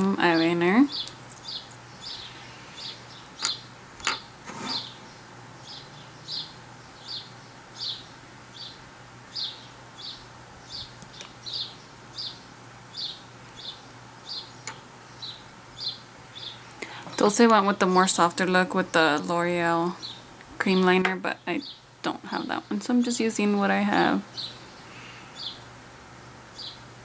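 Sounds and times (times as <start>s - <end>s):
bird chirping: 0.3s - 18.2s, 18.8s - 22.8s, 23.9s - 25.7s, 26.5s - 26.8s.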